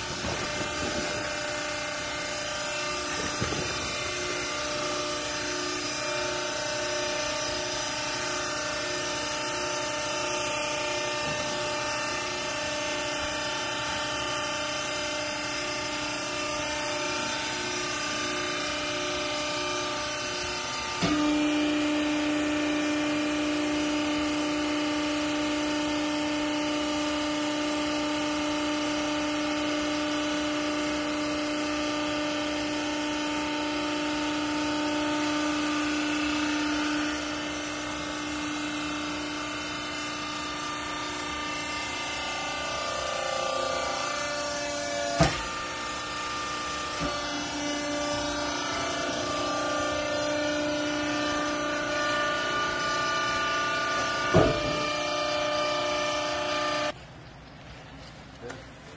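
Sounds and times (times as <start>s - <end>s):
hydraulic power unit humming: 0.0s - 57.6s.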